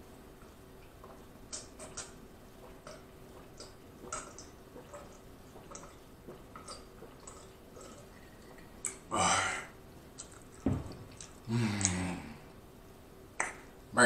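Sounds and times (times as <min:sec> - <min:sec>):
person swallowing while drinking: 0:00.8 - 0:12.5.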